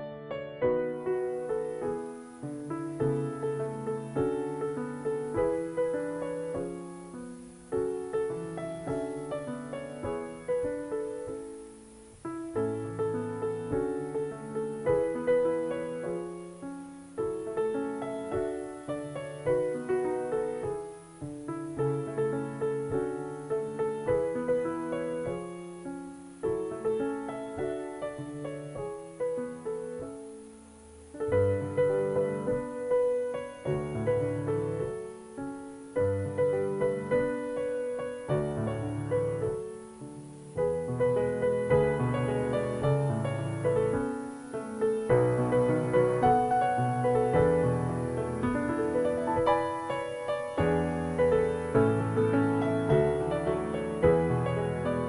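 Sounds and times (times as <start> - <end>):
background piano music: 0.0 - 55.0.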